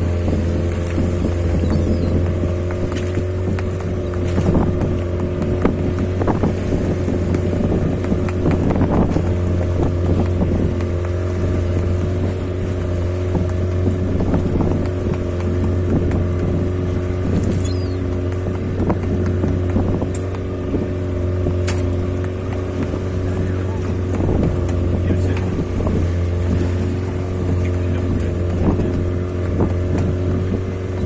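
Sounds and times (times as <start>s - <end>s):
boat engine humming: 0.0s - 31.0s.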